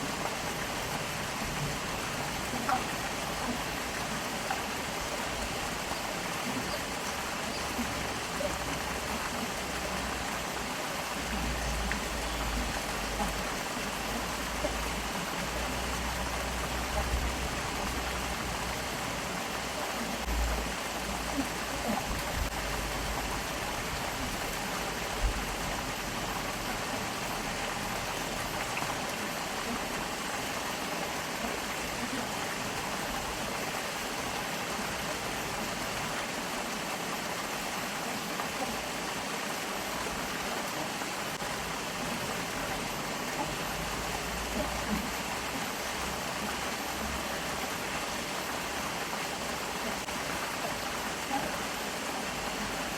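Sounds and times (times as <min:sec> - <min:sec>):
stream water flowing: 0:00.0 - 0:52.9.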